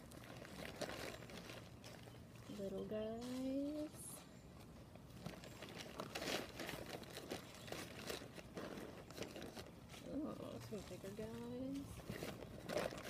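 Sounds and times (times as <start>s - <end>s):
rustling of bag and soil: 0.0s - 13.0s.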